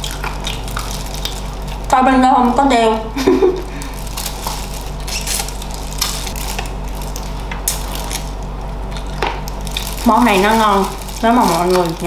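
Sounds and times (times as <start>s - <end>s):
crunchy chewing: 0.0s - 1.9s, 3.7s - 12.0s
steady low hum: 0.0s - 12.0s.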